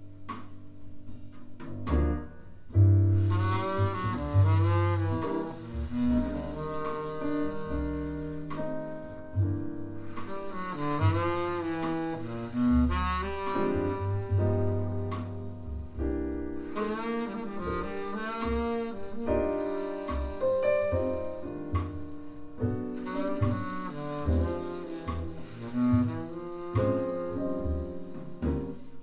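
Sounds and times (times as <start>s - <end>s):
piano: 0.0s - 29.0s
plucked double bass: 0.0s - 29.0s
tenor saxophone melody: 3.2s - 9.3s, 10.1s - 15.6s, 16.6s - 28.7s.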